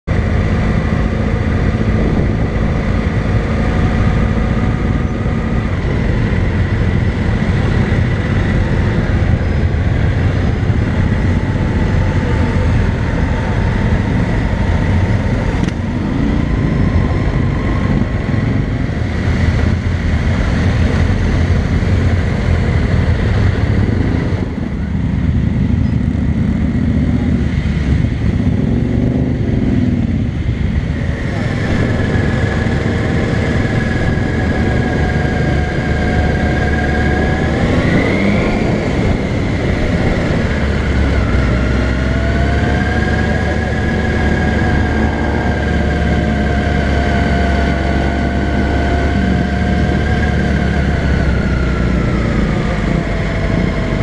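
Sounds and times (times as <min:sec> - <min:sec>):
motorcycle engine running: 0:00.0 - 0:54.0
other motorcycles running: 0:00.0 - 0:54.0.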